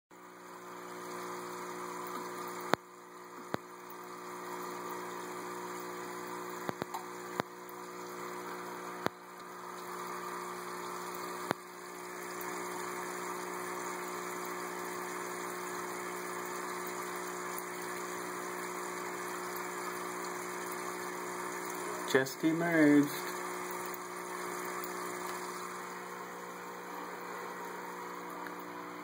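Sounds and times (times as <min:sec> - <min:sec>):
aquarium pump humming: 0:00.2 - 0:29.0.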